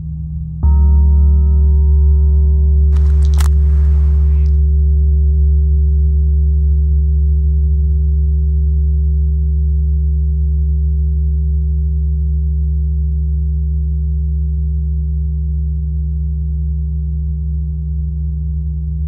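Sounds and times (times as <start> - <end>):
loud low droning tone: 0.0 - 15.5.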